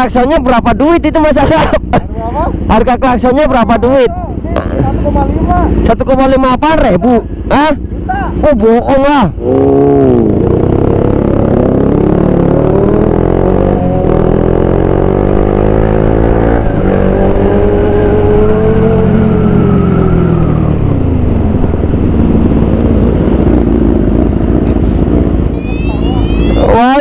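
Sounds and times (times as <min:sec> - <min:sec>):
motorcycle engines revving: 0:00.0 - 0:27.0.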